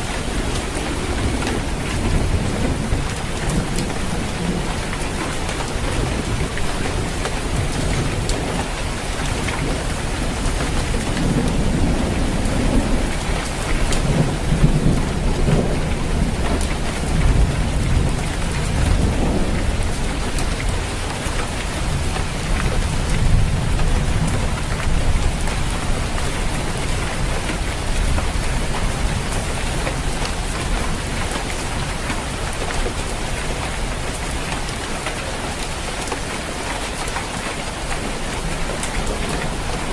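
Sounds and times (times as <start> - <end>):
low rolling thunder: 0.0 - 34.5
heavy rain on a roof: 0.0 - 39.9.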